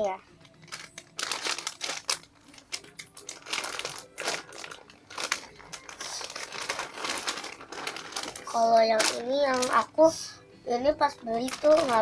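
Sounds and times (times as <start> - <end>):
plastic packaging crinkling: 0.4 - 9.9, 11.2 - 12.0.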